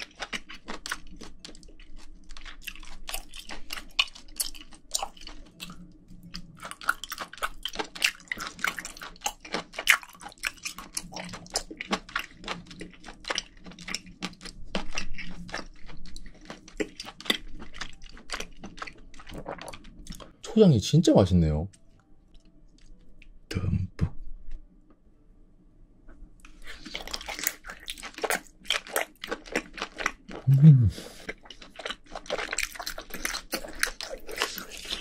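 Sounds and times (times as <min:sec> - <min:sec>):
wet chewing and mouth smacks: 0:00.0 - 0:20.4, 0:26.4 - 0:30.6, 0:31.2 - 0:35.0.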